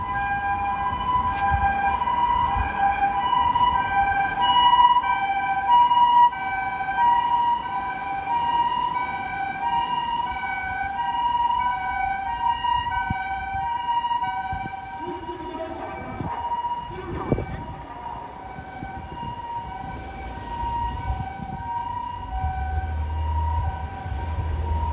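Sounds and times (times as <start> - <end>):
two-tone hi-lo siren: 0.0 - 24.9.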